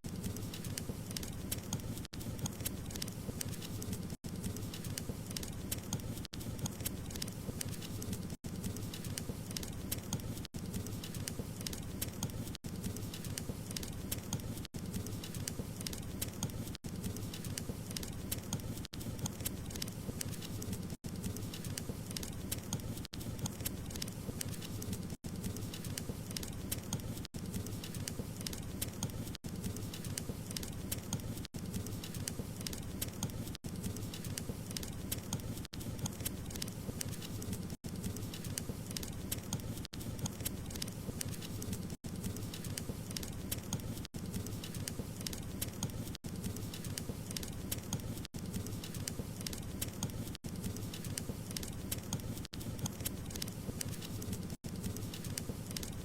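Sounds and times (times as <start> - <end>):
wood crackling in fireplace: 0.0 - 56.0.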